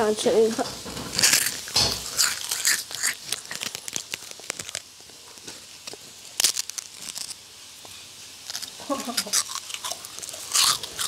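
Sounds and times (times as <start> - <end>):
crunching prawn crackers: 1.1 - 11.0.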